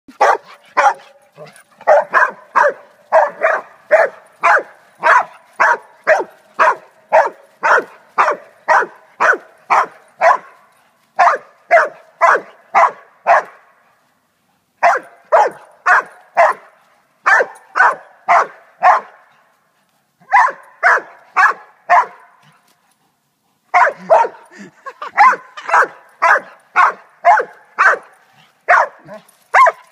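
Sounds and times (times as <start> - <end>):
dog barking: 0.1 - 10.6, 11.2 - 13.7, 14.8 - 19.3, 20.2 - 22.4, 23.7 - 24.5, 25.2 - 29.9.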